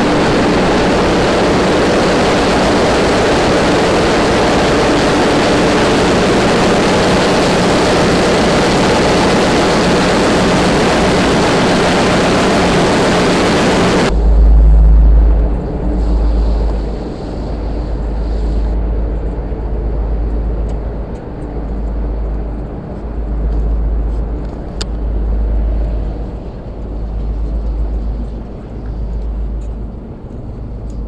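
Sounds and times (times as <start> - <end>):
ship machinery droning: 0.0 - 30.8
wind rumble on microphone: 0.0 - 31.0.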